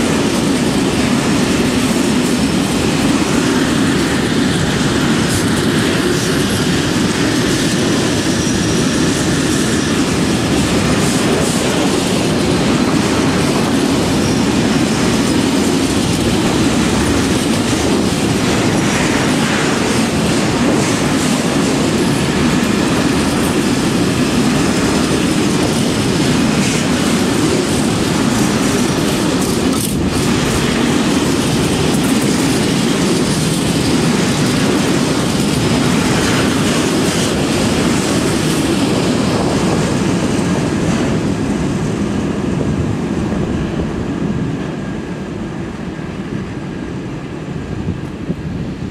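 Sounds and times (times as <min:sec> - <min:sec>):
train wheels clattering on rails: 0:00.0 - 0:48.9.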